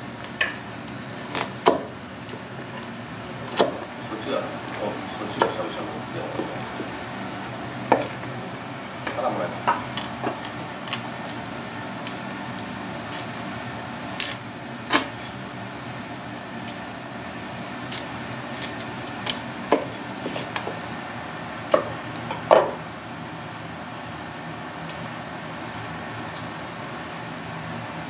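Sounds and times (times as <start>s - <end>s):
kitchen hum: 0.0s - 28.0s.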